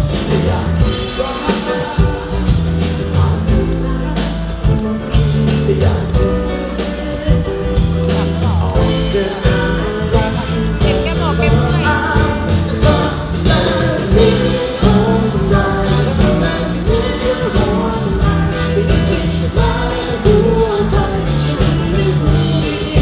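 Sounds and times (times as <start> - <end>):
live pop band with singing: 0.0 - 23.0.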